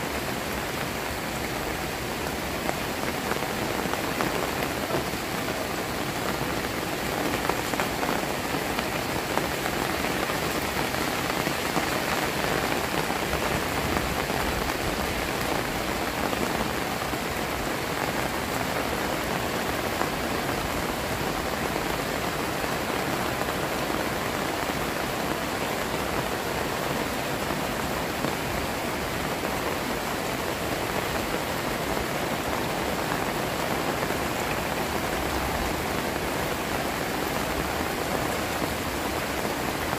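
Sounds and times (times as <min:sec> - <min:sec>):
heavy rain on water: 0:00.0 - 0:39.9.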